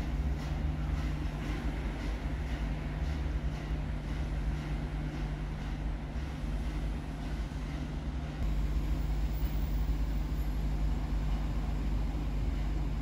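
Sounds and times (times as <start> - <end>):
steam locomotive rumble and hum: 0.0 - 13.0.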